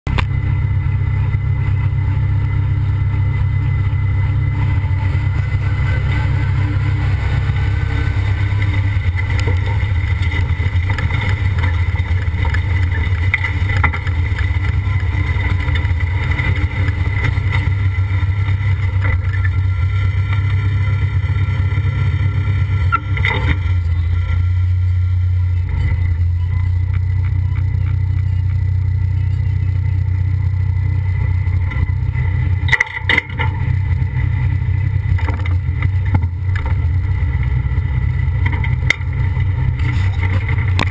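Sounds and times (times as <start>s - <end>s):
tractor engine running hard: 0.0s - 40.9s.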